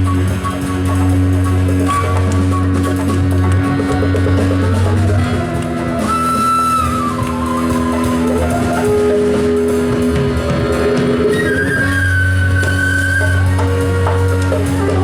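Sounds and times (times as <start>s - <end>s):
live band instrumental music: 0.0s - 15.0s.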